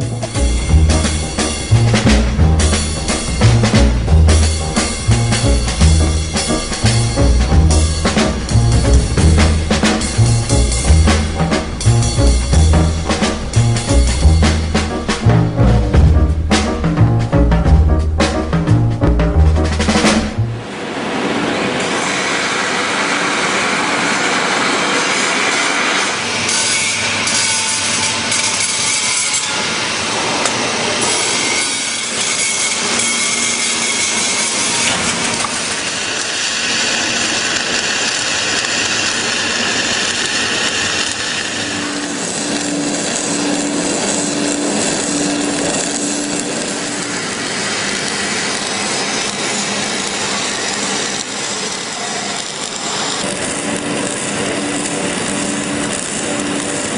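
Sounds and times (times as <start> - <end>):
metal grinding hiss: 0.0 - 18.8, 19.8 - 56.9.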